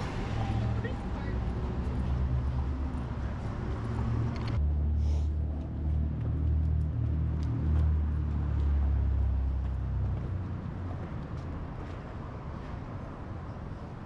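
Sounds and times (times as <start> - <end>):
vehicle engine rumbling: 0.0 - 12.4.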